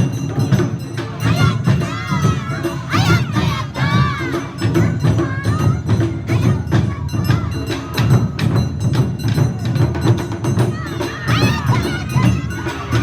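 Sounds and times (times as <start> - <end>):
drums: 0.0 - 13.0.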